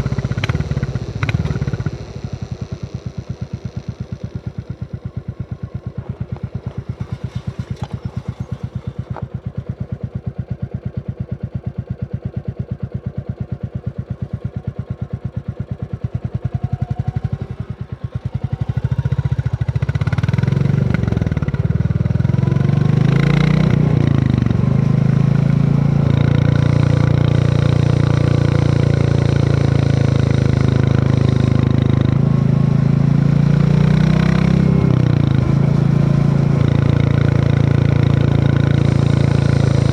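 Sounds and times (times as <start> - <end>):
motorcycle revving through gears: 0.0 - 9.7, 15.6 - 39.9
motorcycle engine idling: 0.0 - 39.9.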